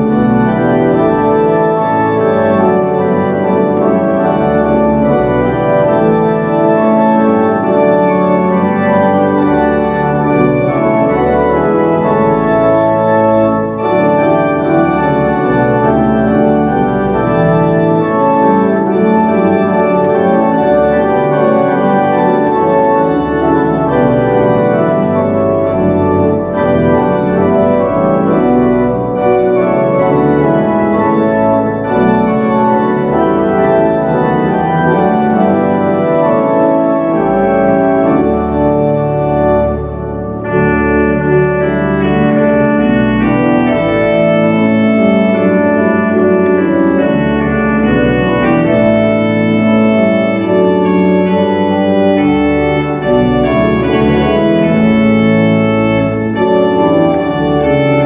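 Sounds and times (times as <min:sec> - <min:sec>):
church organ playing a hymn: 0:00.0 - 0:58.0.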